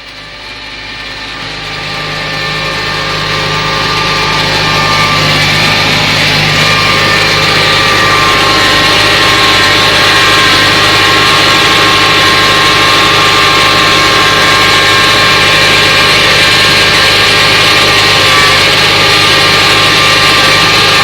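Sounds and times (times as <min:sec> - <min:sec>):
harvester mechanical whine: 0:00.0 - 0:21.0
tractor engine drone: 0:00.0 - 0:21.0.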